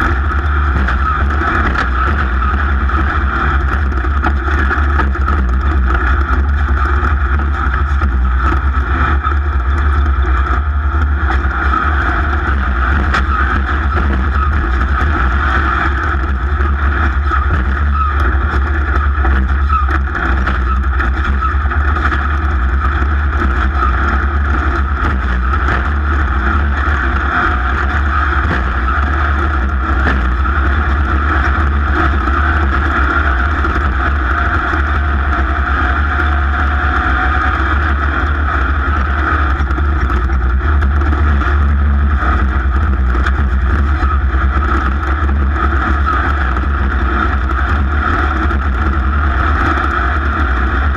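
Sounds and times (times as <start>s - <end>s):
jet ski engine running: 0.0s - 50.9s
wind noise: 0.0s - 50.9s.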